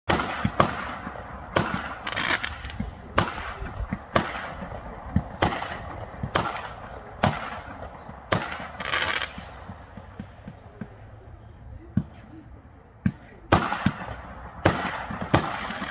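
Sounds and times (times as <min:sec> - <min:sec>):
fireworks bangs: 0:00.1 - 0:15.9
fireworks crackling: 0:00.1 - 0:15.9.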